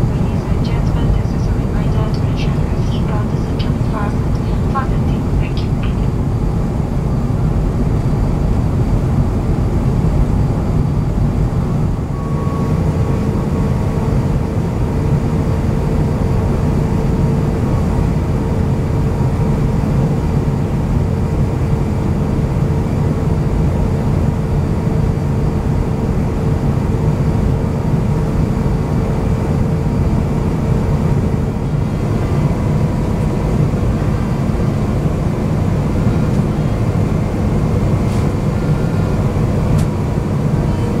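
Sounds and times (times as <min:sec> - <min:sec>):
airplane cabin rumble: 0:00.0 - 0:41.0
faint steady hum: 0:00.0 - 0:41.0.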